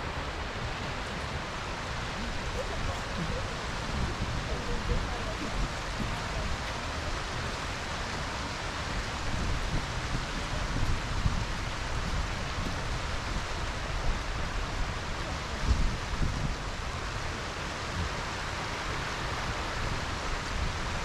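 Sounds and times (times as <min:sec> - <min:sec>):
river flowing over stones: 0:00.0 - 0:21.0.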